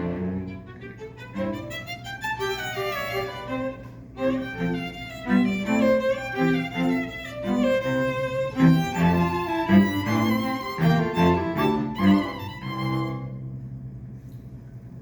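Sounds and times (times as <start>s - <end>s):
string quartet playing: 0.0s - 13.7s.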